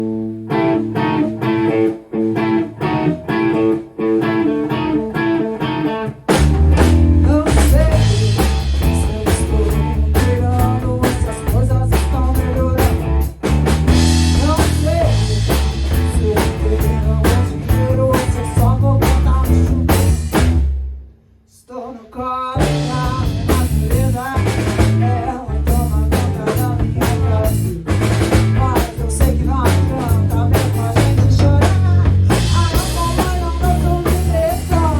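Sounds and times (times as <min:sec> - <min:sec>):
electric guitar: 0:00.0 - 0:20.8, 0:22.6 - 0:34.9
rock band playing: 0:00.0 - 0:21.0, 0:22.6 - 0:34.9.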